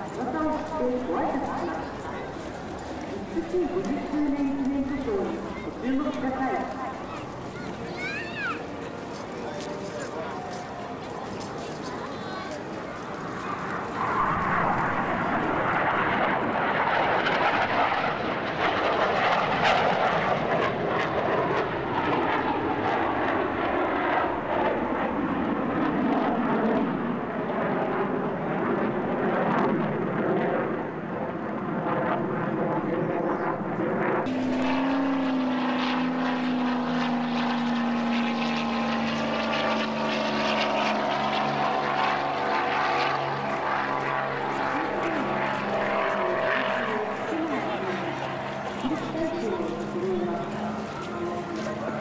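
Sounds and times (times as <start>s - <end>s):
jet flying past overhead: 0.0s - 52.0s
propeller plane droning past: 0.0s - 52.0s.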